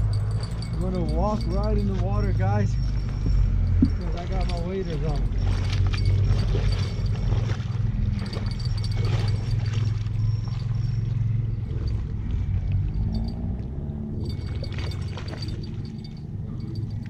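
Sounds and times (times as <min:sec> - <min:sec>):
steady low rumble: 0:00.0 - 0:17.0
wading steps splashing in water: 0:00.4 - 0:13.2, 0:14.3 - 0:16.3.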